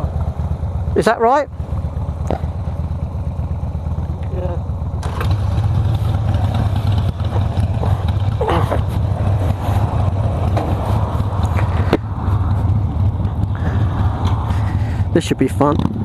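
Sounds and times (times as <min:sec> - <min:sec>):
motorcycle engine throbbing: 0:00.0 - 0:16.0.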